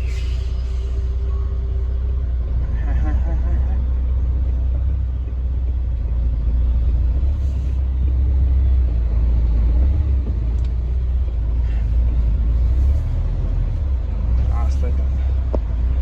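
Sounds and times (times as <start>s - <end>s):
truck engine low rumble: 0.0s - 16.0s.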